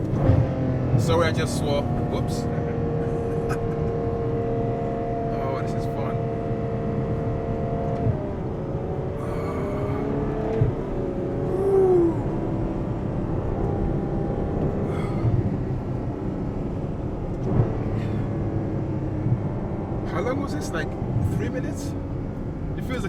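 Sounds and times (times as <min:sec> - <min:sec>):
car engine slowing down: 0:00.0 - 0:23.0
road noise rumble: 0:00.0 - 0:23.0.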